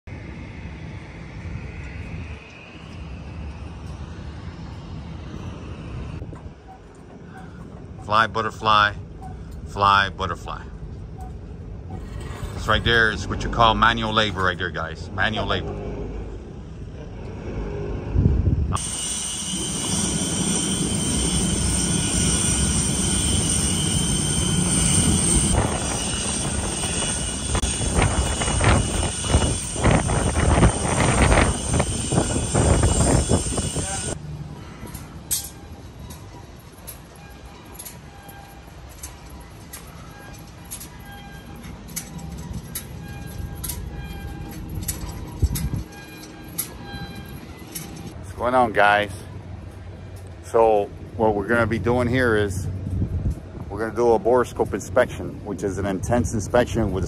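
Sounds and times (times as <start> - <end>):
low wind rumble: 0.0 - 57.0
turbine whine: 0.0 - 57.0.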